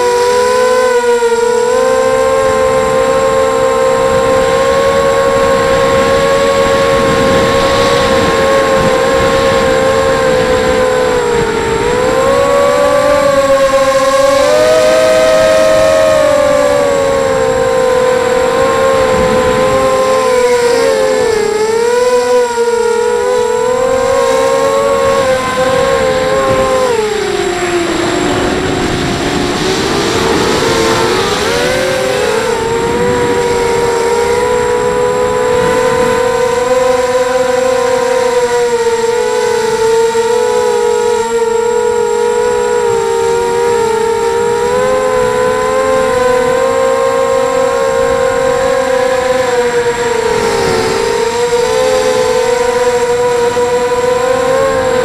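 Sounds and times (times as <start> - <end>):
high drone motor whine: 0.0 - 55.0.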